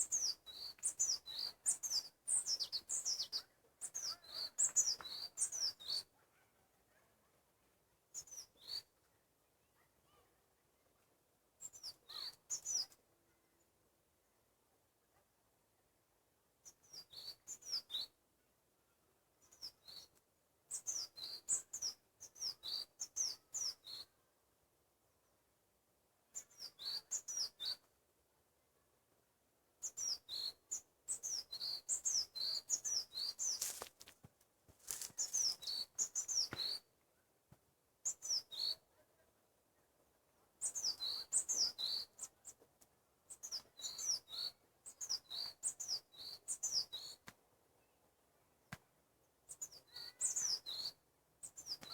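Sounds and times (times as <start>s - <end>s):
songbird chirping: 0.0s - 51.9s.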